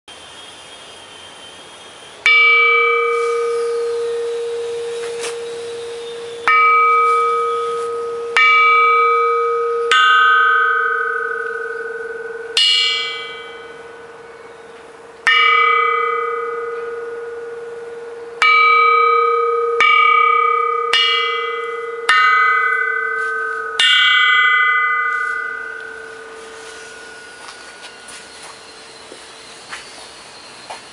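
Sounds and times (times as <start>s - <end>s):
cowbell ringing: 2.3s - 14.6s, 15.2s - 29.5s.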